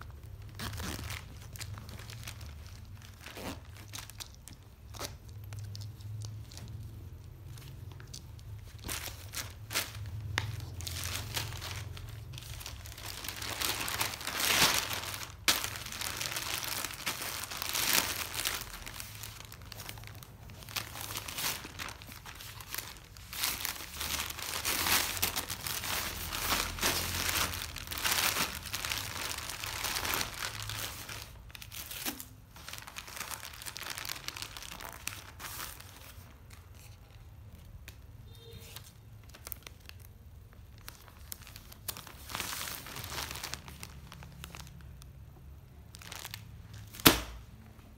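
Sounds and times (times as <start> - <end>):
plastic bags crinkling: 0.0 - 37.4, 38.7 - 47.6.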